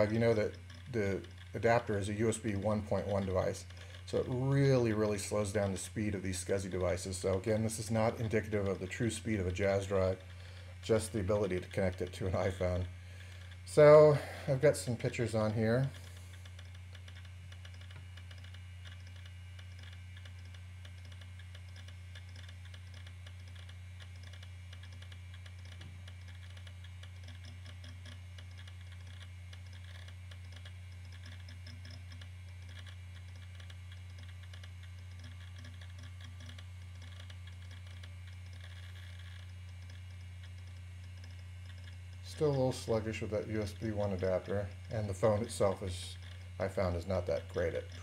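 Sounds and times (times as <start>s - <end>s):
disk drive humming: 0.0s - 48.0s
drive clicking: 0.0s - 48.0s.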